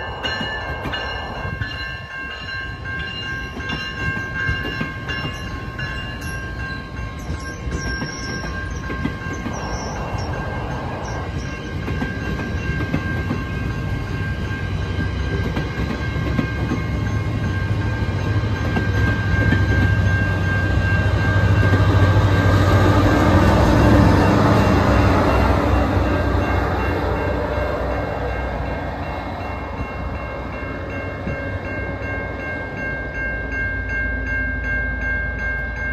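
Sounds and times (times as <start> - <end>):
diesel locomotive rumble: 0.0 - 33.7.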